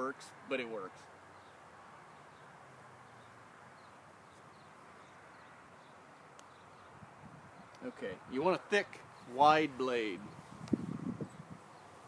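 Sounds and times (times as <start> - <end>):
faint outdoor background hiss: 0.0 - 12.0.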